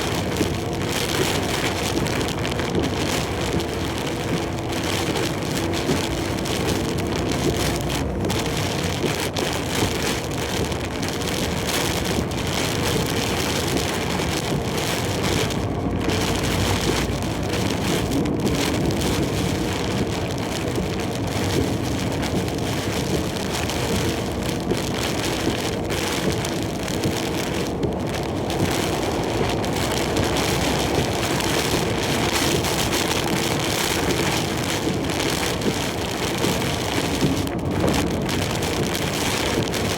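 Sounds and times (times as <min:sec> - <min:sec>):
heavy rain beating on truck cab: 0:00.0 - 0:39.9.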